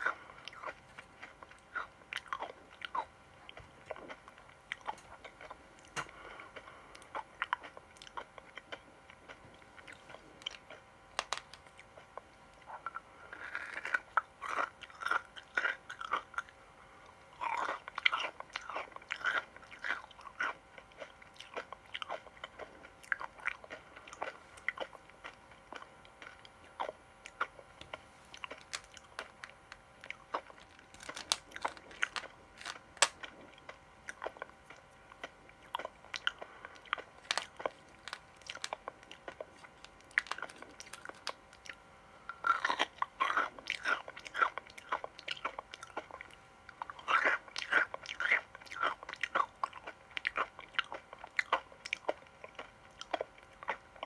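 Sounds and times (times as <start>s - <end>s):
person chewing crunchy sweets: 0.0s - 54.0s.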